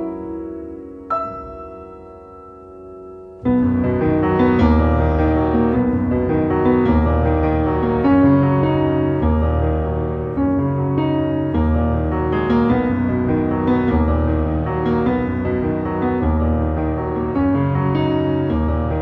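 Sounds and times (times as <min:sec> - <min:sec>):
piano background music: 0:00.0 - 0:19.0.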